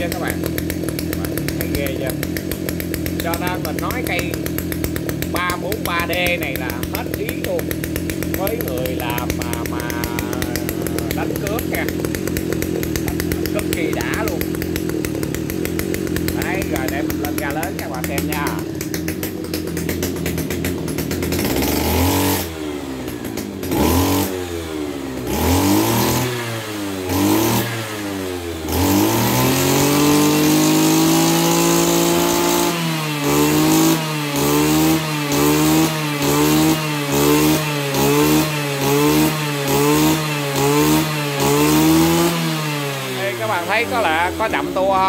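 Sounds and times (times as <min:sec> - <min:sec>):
brush cutter engine revving: 0:00.0 - 0:45.0.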